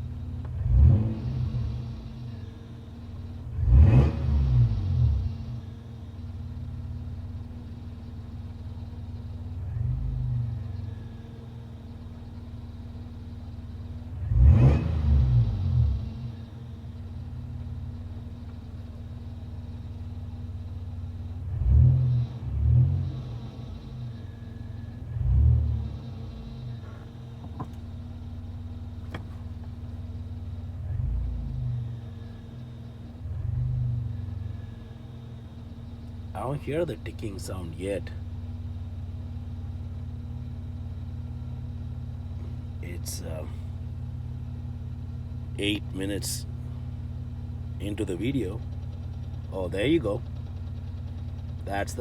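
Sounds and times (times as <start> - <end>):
engine idling rumble: 0.0 - 52.0.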